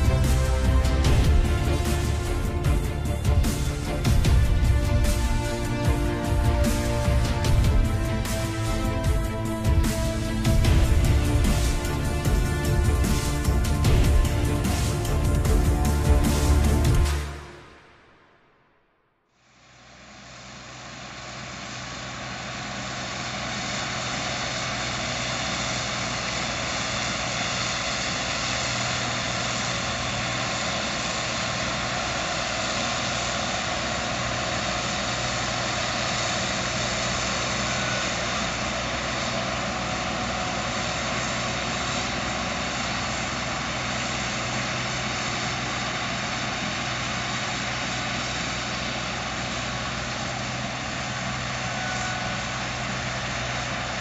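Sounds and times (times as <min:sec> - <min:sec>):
combine harvester running: 0:00.0 - 0:18.5, 0:19.5 - 0:54.0.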